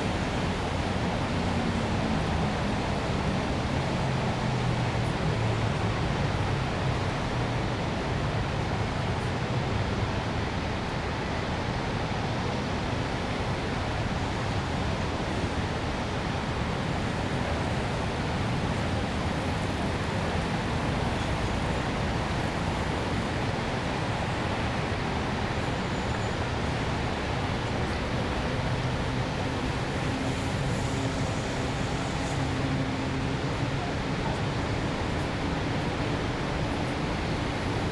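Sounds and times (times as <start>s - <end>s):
road traffic noise: 0.0s - 37.9s.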